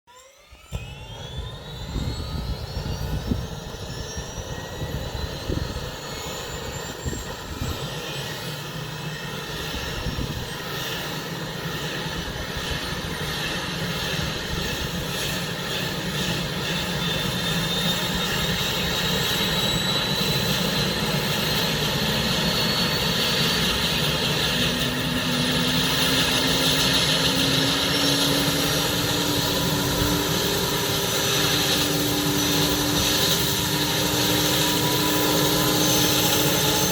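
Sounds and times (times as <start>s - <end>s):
helicopter turbine whine climbing: 0.1s - 36.9s.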